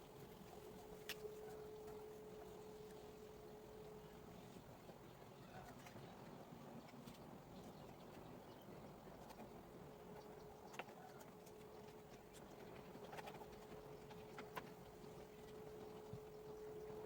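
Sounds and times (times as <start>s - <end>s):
faint steady tone: 0.0s - 17.0s.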